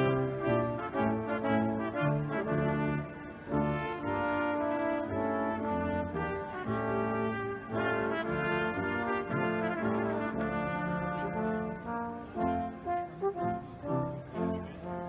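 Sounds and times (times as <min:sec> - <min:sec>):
brass ensemble playing chords: 0:00.0 - 0:15.0.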